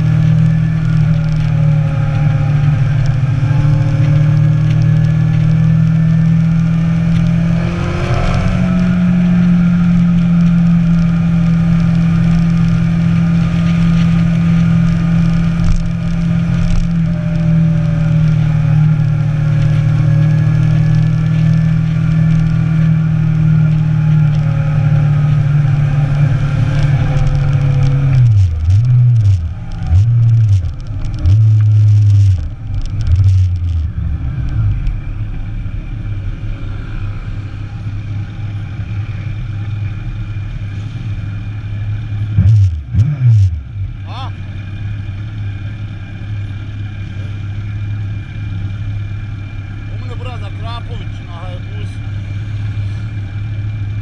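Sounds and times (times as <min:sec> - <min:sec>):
motorcycle engine revving: 0:00.0 - 0:50.2.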